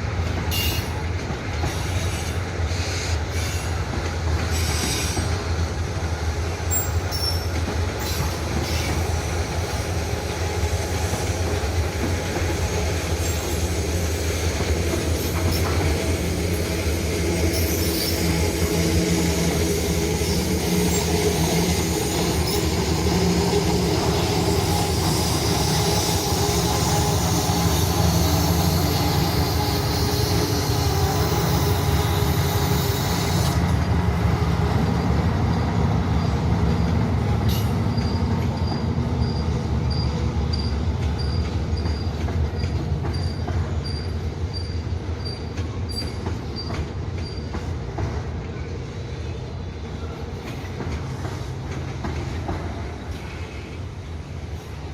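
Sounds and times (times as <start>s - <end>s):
locomotive diesel engines: 0.0s - 54.9s
wheels squealing on rail: 0.5s - 5.6s, 6.6s - 34.0s, 34.6s - 54.9s.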